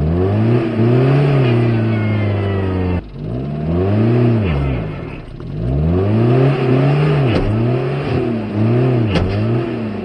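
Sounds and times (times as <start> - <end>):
engine revving hard: 0.0 - 10.0.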